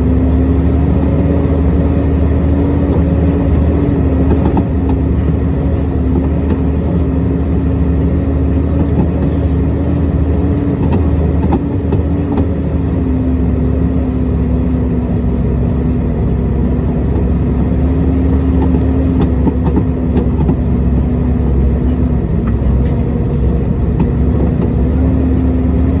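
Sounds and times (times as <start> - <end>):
engine running with low hum: 0.0 - 26.0.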